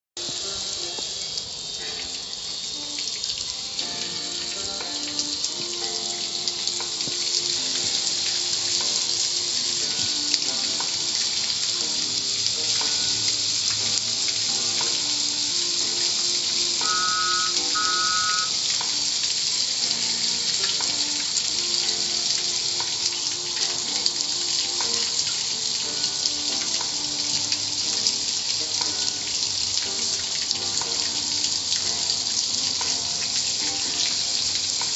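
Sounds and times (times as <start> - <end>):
water jets spraying: 0.2 - 34.9.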